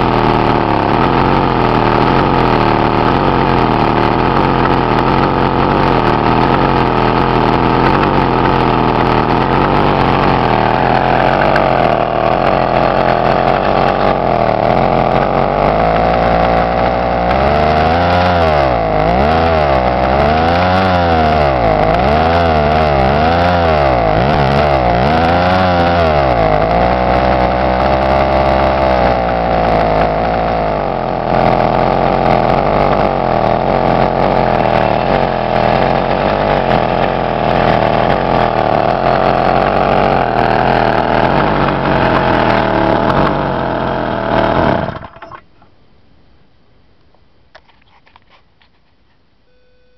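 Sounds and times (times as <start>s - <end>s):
small engine revving: 0.0s - 45.5s.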